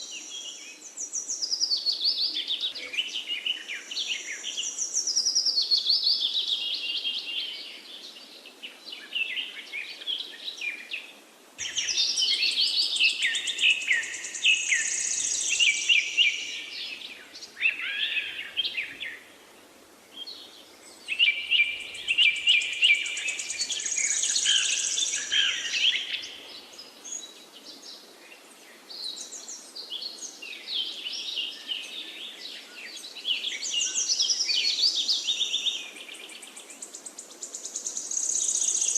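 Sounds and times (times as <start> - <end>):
birds chirping and twittering: 0.0 - 38.9.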